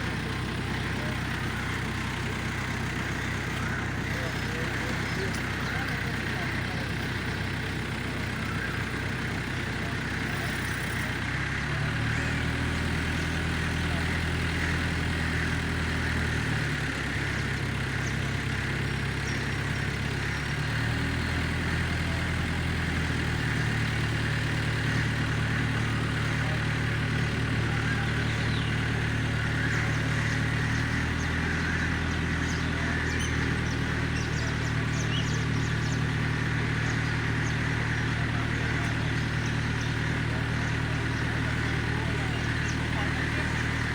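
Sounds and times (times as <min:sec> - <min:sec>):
vehicle engine revving: 0:00.0 - 0:43.9.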